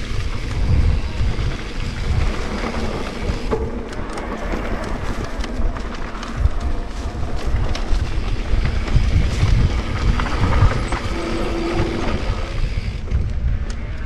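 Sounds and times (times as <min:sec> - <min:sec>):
bike tyres rumbling on dirt: 0:00.0 - 0:14.0
wind buffeting microphone: 0:00.0 - 0:14.0.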